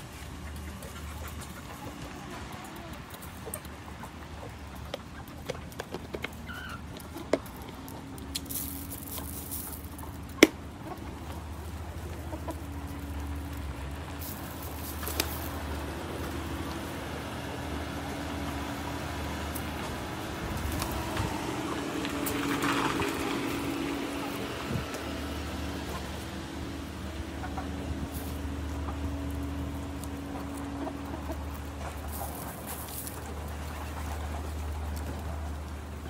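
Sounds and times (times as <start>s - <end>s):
chickens clucking softly: 0.0s - 36.0s.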